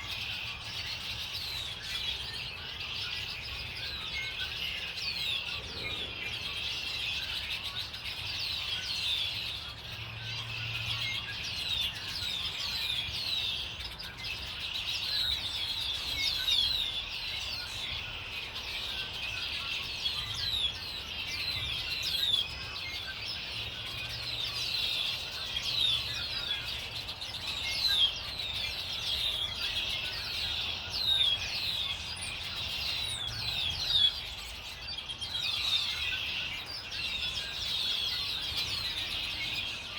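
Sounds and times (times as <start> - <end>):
flock of songbirds chirping: 0.0 - 39.9.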